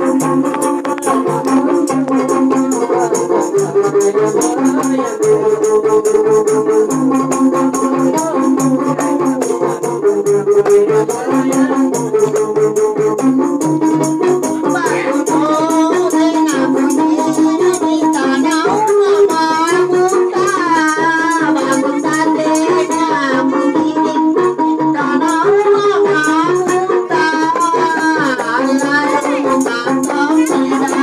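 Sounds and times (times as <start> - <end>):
frame drum rattling beat: 0.0 - 24.0, 25.2 - 31.0
lute melody: 0.0 - 31.0.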